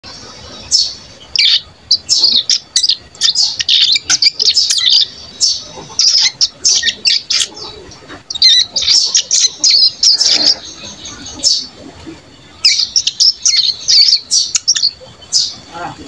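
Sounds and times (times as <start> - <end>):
young bird twittering: 0.0 - 16.0.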